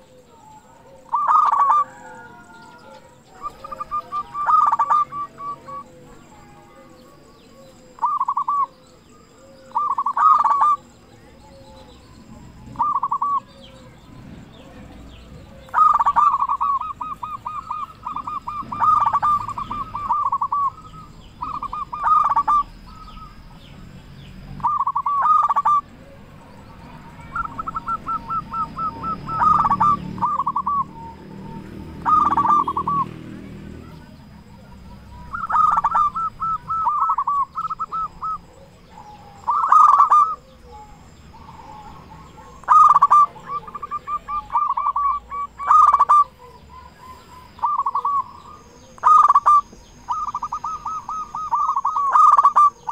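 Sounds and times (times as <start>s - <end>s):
dove cooing trilled song: 0.0s - 52.9s.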